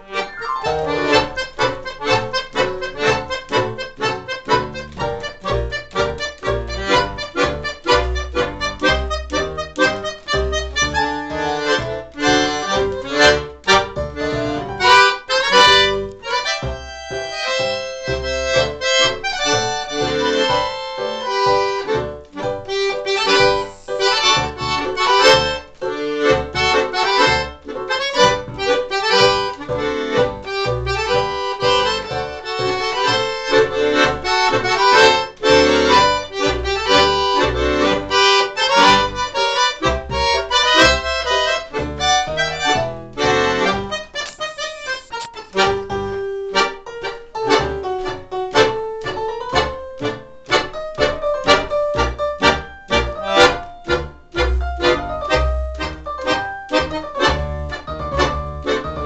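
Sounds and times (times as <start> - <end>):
accordion playing lively tune: 0.0 - 59.0.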